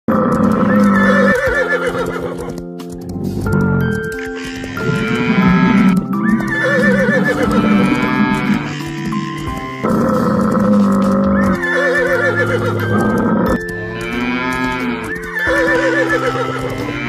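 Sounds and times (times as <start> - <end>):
background music of held notes: 0.1 - 17.0
horses whinnying: 0.1 - 17.0.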